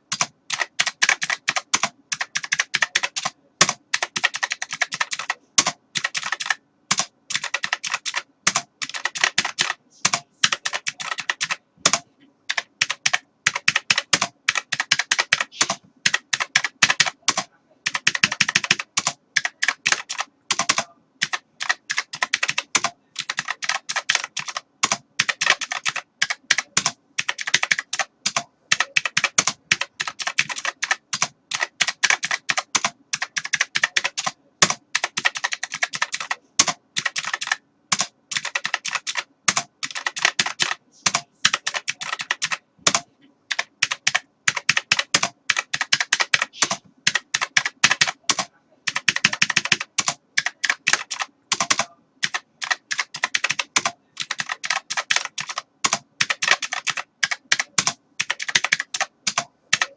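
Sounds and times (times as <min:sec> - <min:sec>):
keyboard typing clicks: 0:00.1 - 0:59.9.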